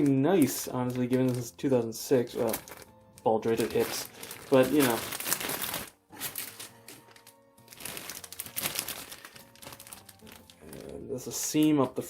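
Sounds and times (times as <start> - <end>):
plastic bags crinkling: 0.0 - 12.0
quiet background music: 0.0 - 12.0.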